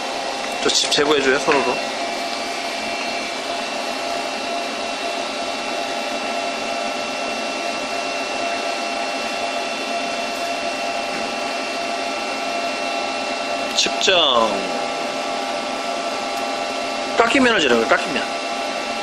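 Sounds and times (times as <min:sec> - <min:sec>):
lathe idling hum: 0:00.0 - 0:19.0.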